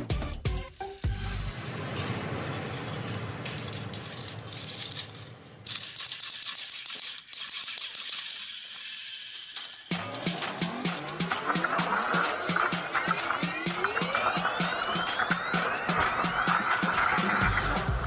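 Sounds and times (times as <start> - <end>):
toy train motor rattling: 2.0 - 18.0.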